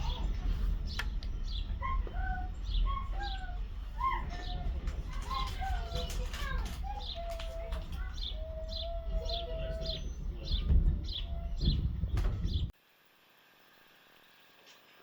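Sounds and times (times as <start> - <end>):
bird chirping: 0.0 - 12.7
low outdoor rumble: 0.0 - 12.7.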